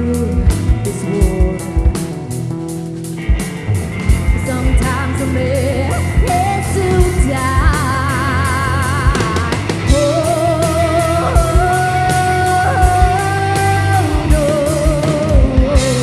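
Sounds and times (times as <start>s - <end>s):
drums keeping steady beat: 0.0s - 16.0s
rock band playing: 0.0s - 16.0s.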